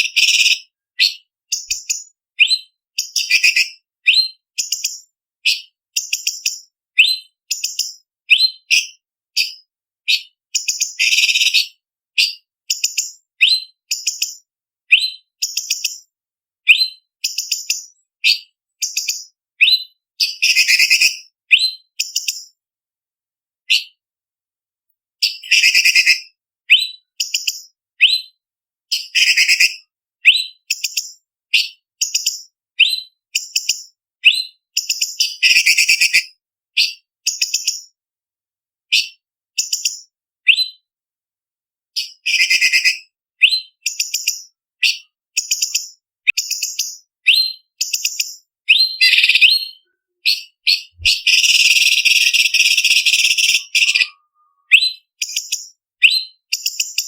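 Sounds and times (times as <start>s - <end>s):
bird singing high whistled notes: 0.1s - 16.1s, 16.7s - 22.5s, 25.2s - 33.6s, 34.2s - 36.2s, 40.5s - 40.8s, 42.0s - 57.0s.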